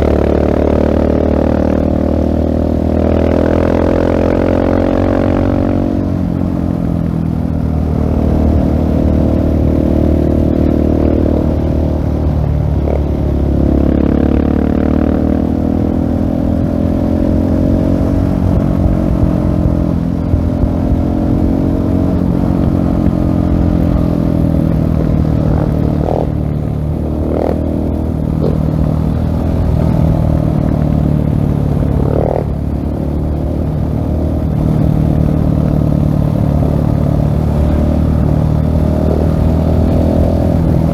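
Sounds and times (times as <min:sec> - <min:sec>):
motorcycle engine revving: 0:00.0 - 0:40.9
wind rush: 0:02.2 - 0:40.9.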